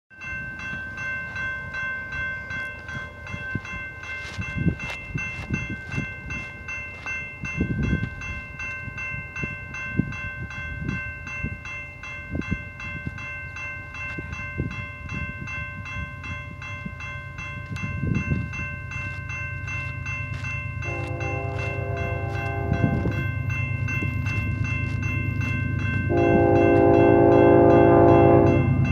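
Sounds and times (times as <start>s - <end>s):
railroad crossing bells ringing: 0.1s - 28.9s.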